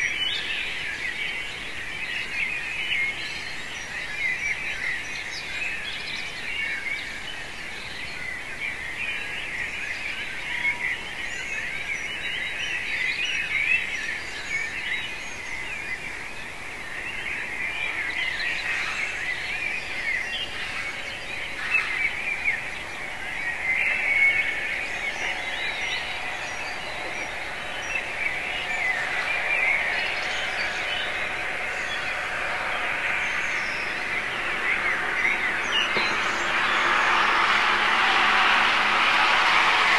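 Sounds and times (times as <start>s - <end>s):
many birds singing: 0.0s - 39.9s.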